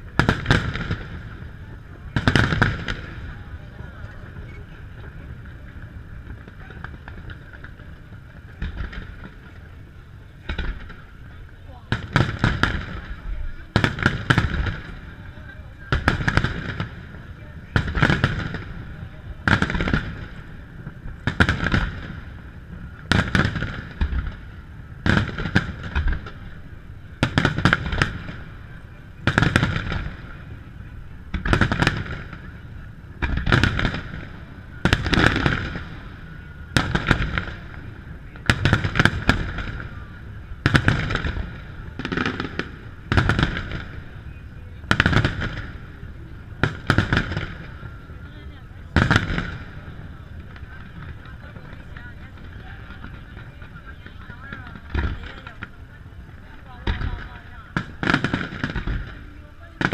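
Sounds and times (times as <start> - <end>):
firework crackle: 0.0 - 59.9.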